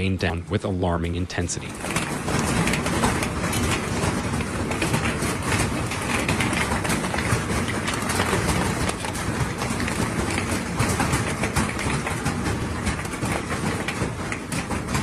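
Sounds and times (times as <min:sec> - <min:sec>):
hailstones clattering on hard surfaces: 0:01.7 - 0:15.0.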